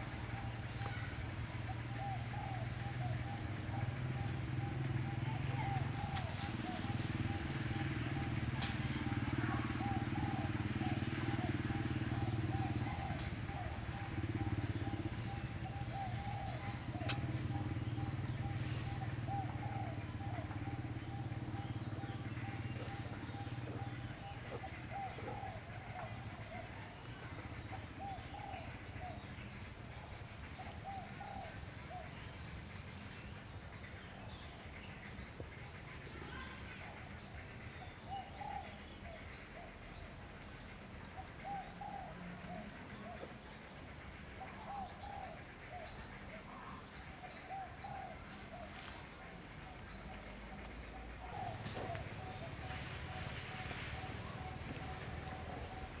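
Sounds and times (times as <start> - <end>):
bird call notes: 0.0 - 32.3, 34.0 - 56.0.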